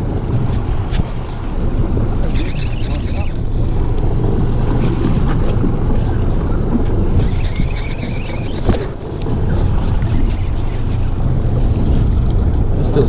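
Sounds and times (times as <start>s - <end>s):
steady low rumble: 0.0s - 13.0s
water washing against boat hull: 0.0s - 13.0s
wind buffeting microphone: 0.0s - 13.0s.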